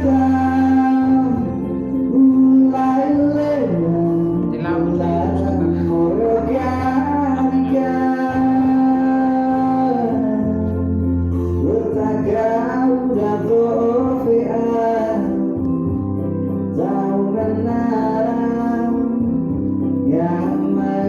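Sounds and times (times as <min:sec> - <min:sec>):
guitar accompaniment: 0:00.0 - 0:21.0
person singing slow song: 0:00.0 - 0:21.0.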